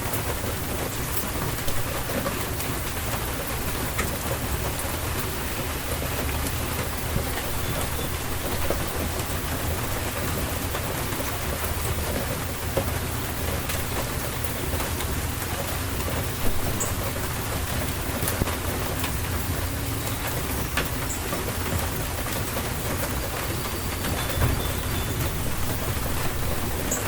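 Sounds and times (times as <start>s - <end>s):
individual raindrop taps: 0.0s - 27.0s
rain falling on surfaces: 0.0s - 27.0s
low rumble of thunder: 0.2s - 27.0s.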